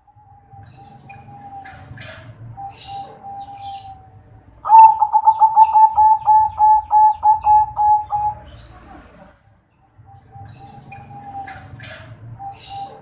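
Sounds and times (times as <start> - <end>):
dove cooing: 0.0 - 8.9, 10.1 - 13.0
small birds chirping faintly: 0.0 - 13.0.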